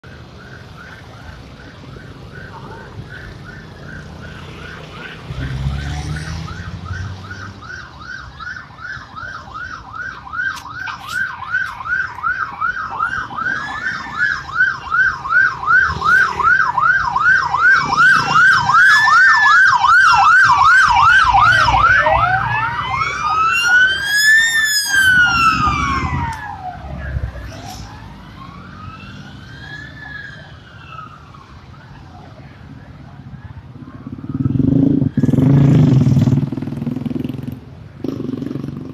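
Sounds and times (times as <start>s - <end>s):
passing traffic: 0.0s - 38.9s
slow wailing siren: 0.1s - 35.4s
fast yelp siren: 0.3s - 34.6s.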